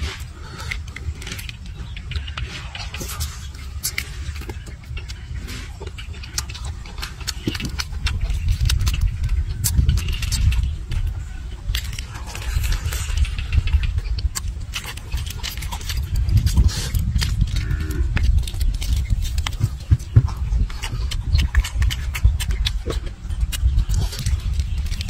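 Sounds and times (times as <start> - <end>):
chewing: 0.0 - 25.0
low rumble: 0.0 - 25.0.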